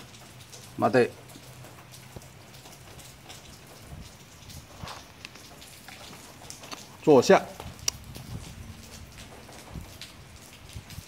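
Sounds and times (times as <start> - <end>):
drips ticking on hard surfaces: 0.0 - 11.0
light rain pattering: 0.0 - 11.0.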